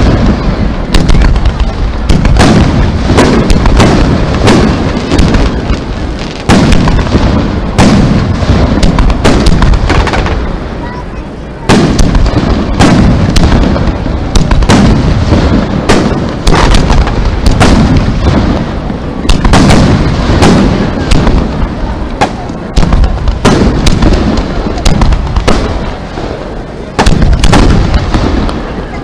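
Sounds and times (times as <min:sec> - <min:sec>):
firework shells bursting: 0:00.0 - 0:10.4, 0:11.7 - 0:28.9.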